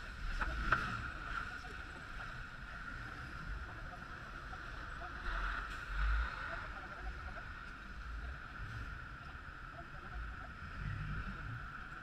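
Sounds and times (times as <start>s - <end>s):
muffled idling traffic rumble: 0.0s - 12.0s.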